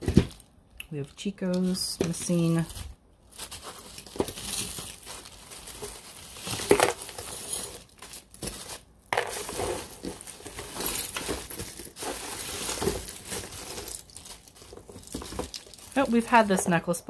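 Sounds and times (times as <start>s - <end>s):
rustling: 1.5s - 17.0s
jewelry clinking and jingling: 1.7s - 17.0s.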